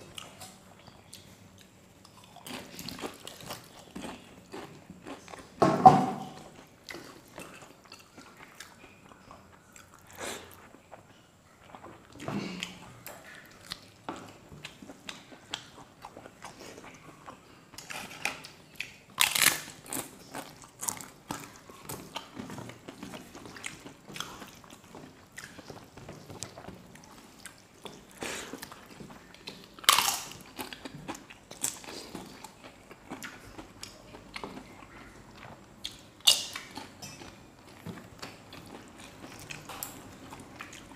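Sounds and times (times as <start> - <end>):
chewing: 0.0 - 40.9.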